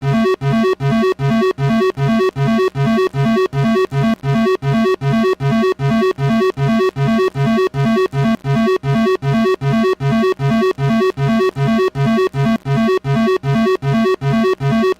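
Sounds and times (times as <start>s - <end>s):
buzzy electronic alarm beeps: 0.0s - 14.9s.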